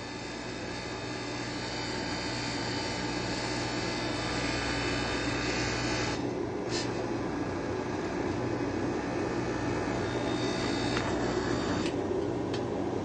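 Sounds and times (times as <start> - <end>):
coffee machine whirring and humming: 0.0 - 13.0.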